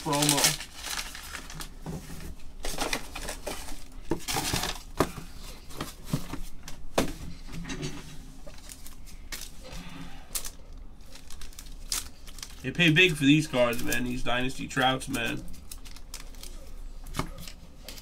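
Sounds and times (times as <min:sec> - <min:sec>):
card packaging crinkling: 0:00.0 - 0:06.5, 0:08.5 - 0:18.0.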